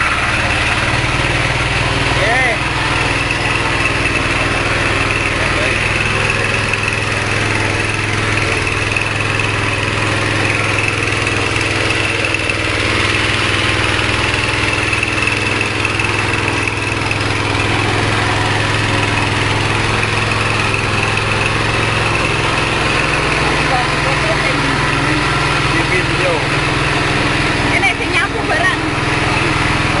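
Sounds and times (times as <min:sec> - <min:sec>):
small petrol engine running: 0:00.0 - 0:30.0.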